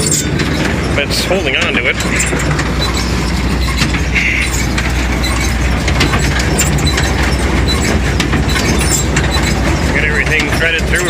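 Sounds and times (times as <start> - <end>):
baler mechanical clatter: 0.0 - 11.0
tractor engine drone: 0.0 - 11.0.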